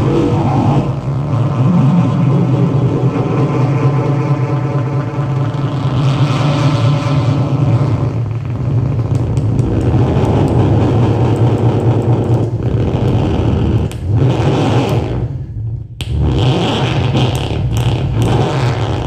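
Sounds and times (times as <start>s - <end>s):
rough amplified instrument drone: 0.0s - 19.0s.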